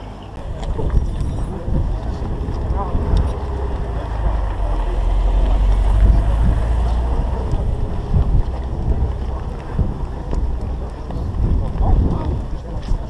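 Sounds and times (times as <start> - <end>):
murmur of many voices: 0.0 - 13.0
wind buffeting microphone: 0.4 - 13.0.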